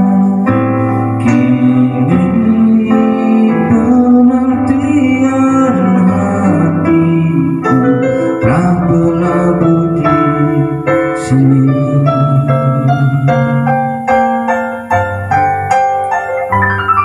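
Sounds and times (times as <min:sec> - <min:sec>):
man singing into microphone: 0:00.0 - 0:14.0
instrumental backing track: 0:00.0 - 0:17.0.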